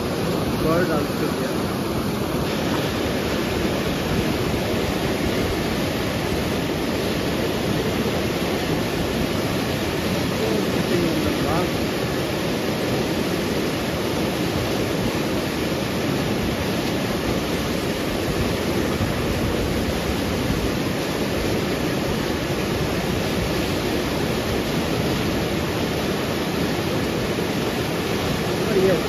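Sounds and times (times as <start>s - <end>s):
river rushing over boulders: 0.0s - 29.0s.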